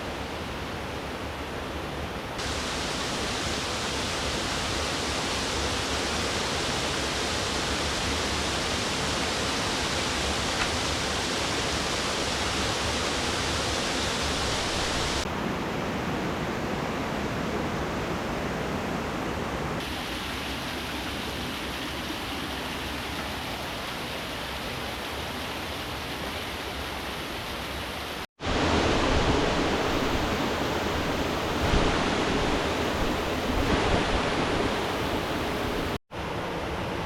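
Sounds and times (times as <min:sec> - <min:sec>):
rushing river water: 0:00.0 - 0:37.0.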